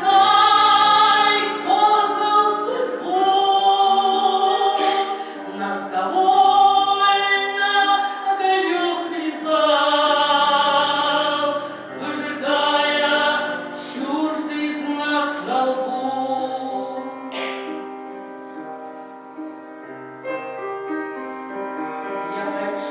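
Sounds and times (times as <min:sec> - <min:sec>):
woman singing slow song: 0:00.0 - 0:17.7, 0:22.2 - 0:22.9.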